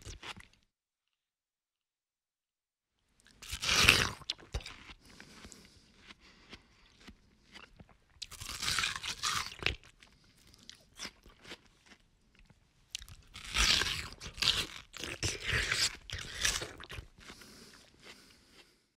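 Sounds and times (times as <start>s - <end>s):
crunchy watermelon chewing: 3.2s - 18.8s.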